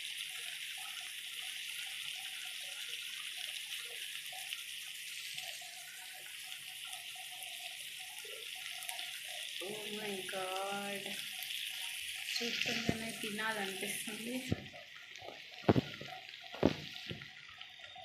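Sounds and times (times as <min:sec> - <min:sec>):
fish frying in oil: 0:00.0 - 0:18.0.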